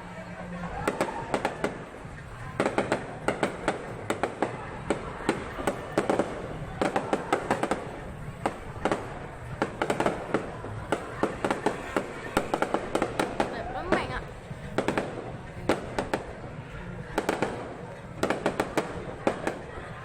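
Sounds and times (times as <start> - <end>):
fireworks bangs and crackles: 0.1 - 20.0.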